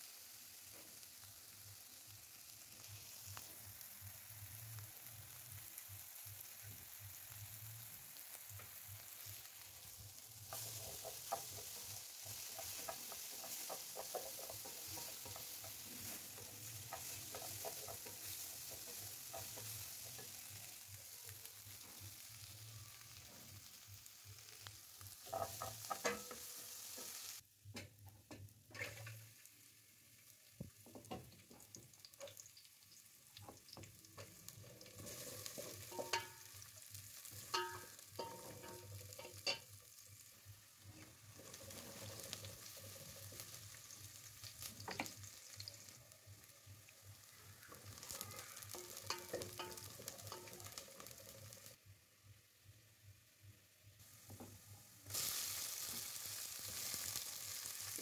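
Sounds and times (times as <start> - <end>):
food sizzling in oil: 0.0 - 27.5, 28.2 - 58.0.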